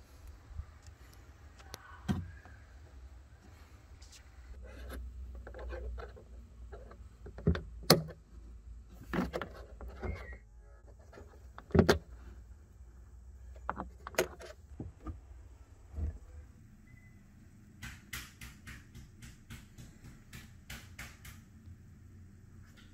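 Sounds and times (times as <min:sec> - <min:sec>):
low steady hum: 0:00.0 - 0:17.8, 0:21.3 - 0:22.9.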